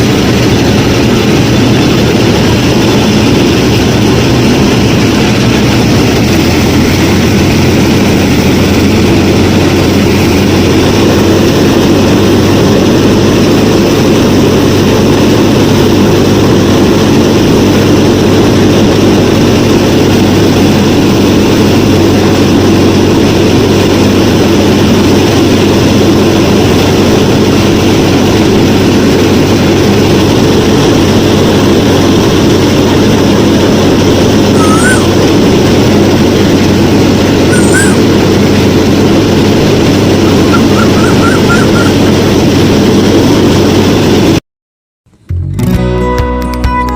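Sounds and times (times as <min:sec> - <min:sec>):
motor drone: 0:00.0 - 0:44.4.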